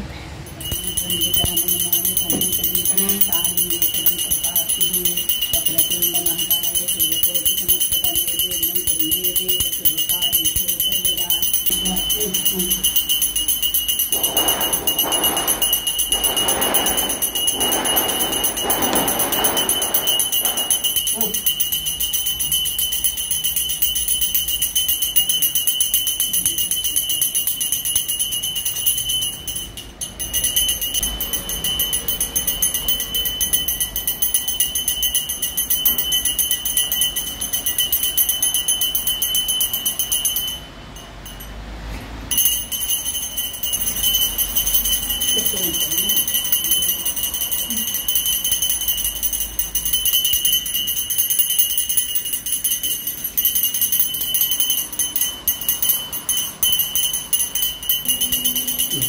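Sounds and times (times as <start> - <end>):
hand bell ringing: 0.4 - 59.0.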